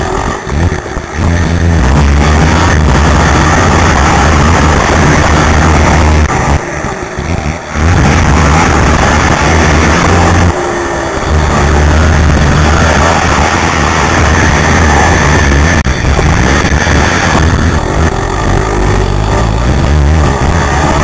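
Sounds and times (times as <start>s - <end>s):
atv engine revving hard: 0.0s - 21.0s.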